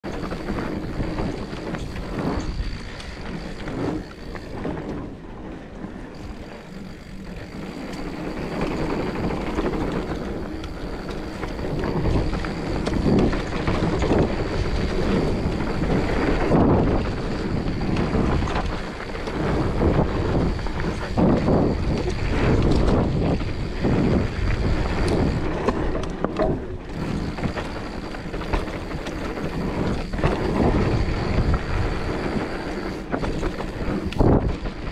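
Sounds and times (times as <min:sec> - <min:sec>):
bike rattling over bumps: 0:00.0 - 0:34.9
tyres rolling over dirt: 0:00.0 - 0:34.9
wind buffeting microphone: 0:00.0 - 0:34.9.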